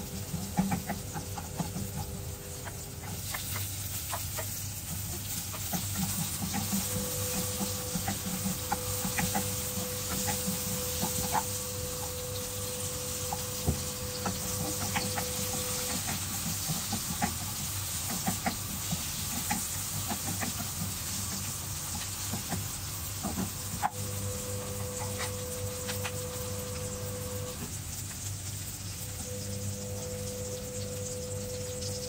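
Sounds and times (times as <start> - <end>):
steady hum: 0.0 - 27.8, 28.8 - 32.0
onions sizzling in oil: 0.0 - 32.0.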